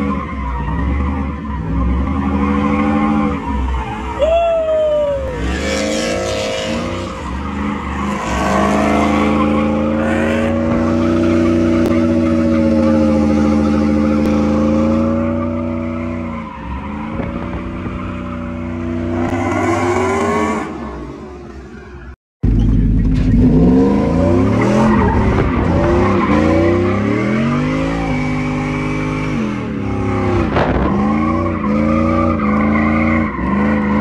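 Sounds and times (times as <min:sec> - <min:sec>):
tires squealing on pavement: 0:00.0 - 0:22.2, 0:23.3 - 0:34.0
car engine at high revs: 0:05.0 - 0:21.9, 0:22.5 - 0:34.0.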